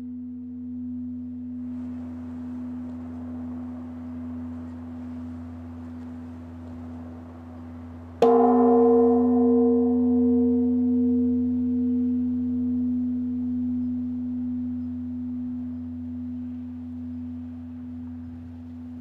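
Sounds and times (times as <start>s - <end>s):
large temple bell ringing: 0.0s - 19.0s.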